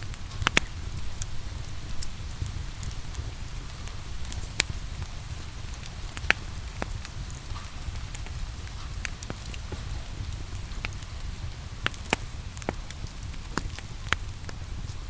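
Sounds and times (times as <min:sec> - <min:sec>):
log fire crackling and popping: 0:00.0 - 0:15.0
rain: 0:00.0 - 0:15.0.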